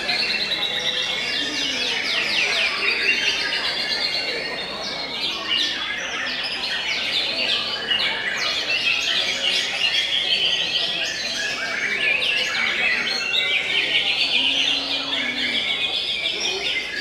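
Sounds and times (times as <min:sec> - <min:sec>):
caged songbirds chirping and whistling: 0:00.0 - 0:17.0.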